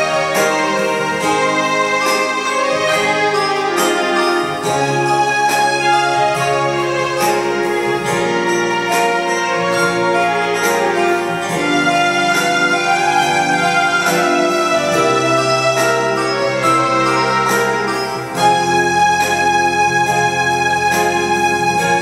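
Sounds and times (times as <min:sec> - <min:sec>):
keyboard bass line: 0:00.0 - 0:22.0
keyboard duet slow melody: 0:00.0 - 0:22.0.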